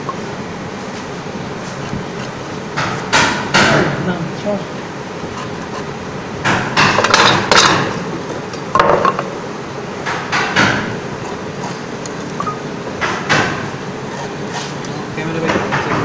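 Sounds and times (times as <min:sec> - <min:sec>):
workshop background noise: 0:00.0 - 0:16.0.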